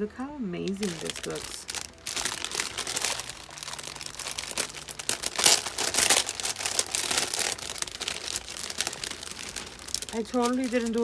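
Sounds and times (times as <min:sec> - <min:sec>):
packaging crinkling: 0:00.6 - 0:11.0.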